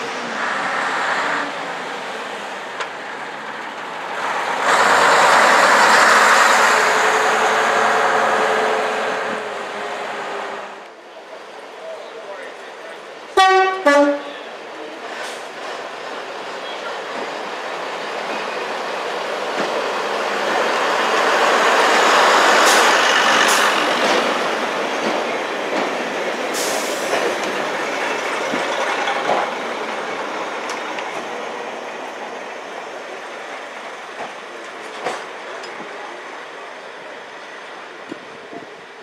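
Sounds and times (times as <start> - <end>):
diesel train passing: 0.0 - 39.0.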